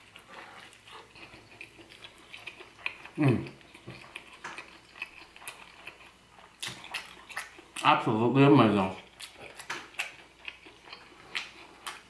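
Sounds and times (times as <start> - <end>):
chewing with wet mouth clicks: 0.0 - 7.9, 8.9 - 12.0.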